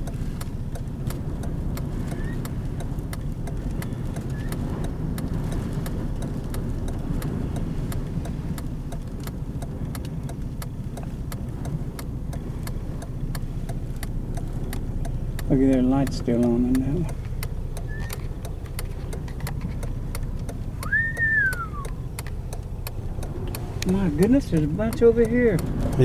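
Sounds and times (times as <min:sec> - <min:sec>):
road and engine rumble: 0:00.0 - 0:26.0
sharp ticks: 0:00.0 - 0:26.0.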